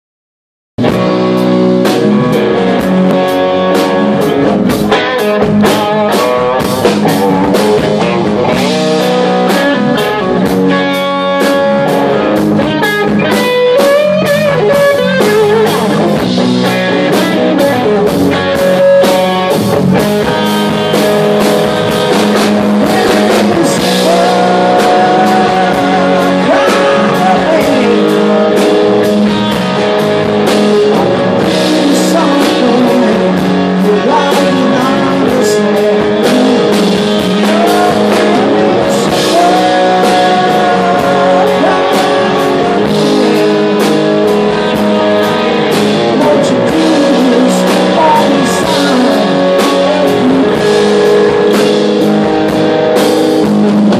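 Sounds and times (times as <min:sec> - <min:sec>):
live rock band playing: 0:00.8 - 0:53.9.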